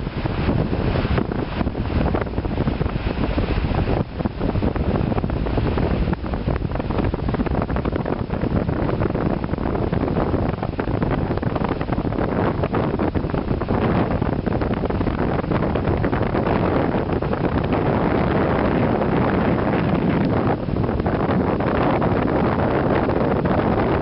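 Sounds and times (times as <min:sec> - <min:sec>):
storm waves breaking on shore: 0:00.0 - 0:24.0
wind buffeting microphone: 0:00.0 - 0:24.0.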